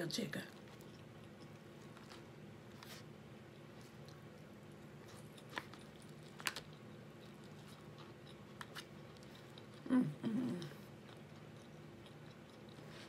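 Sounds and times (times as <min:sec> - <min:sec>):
low steady hum: 0:00.0 - 0:13.0
quiet chewing: 0:00.4 - 0:13.0.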